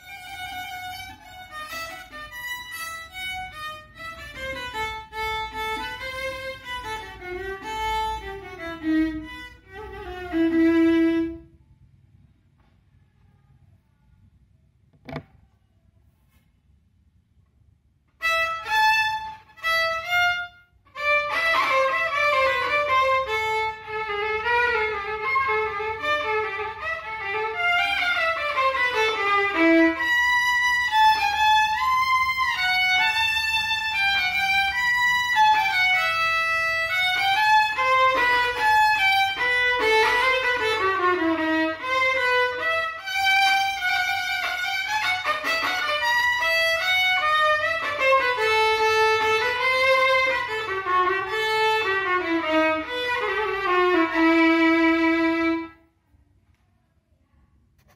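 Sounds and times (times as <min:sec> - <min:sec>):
violin melody: 0:00.0 - 0:11.5, 0:18.2 - 0:55.8.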